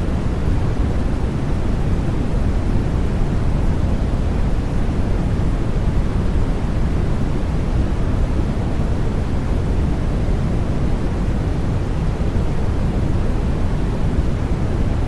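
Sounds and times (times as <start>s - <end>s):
low white noise hiss: 0.0s - 15.0s.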